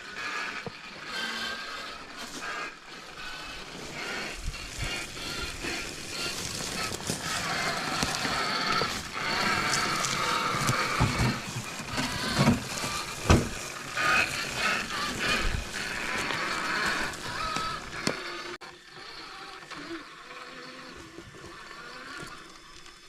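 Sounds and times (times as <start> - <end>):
rc car electric motor whining: 0.0 - 23.0.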